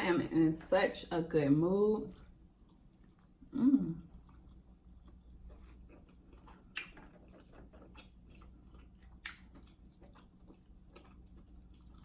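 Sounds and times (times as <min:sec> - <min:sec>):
chewing with wet mouth clicks: 0:02.1 - 0:12.0.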